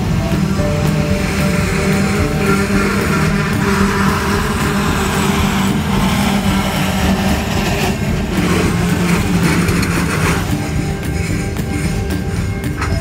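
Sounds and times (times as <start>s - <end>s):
train wheels rumbling on rails: 0.0s - 13.0s
wheels knocking: 0.0s - 13.0s.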